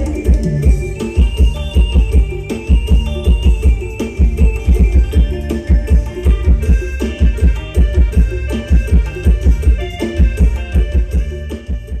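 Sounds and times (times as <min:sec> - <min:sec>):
fast low drum beat: 0:00.0 - 0:12.0.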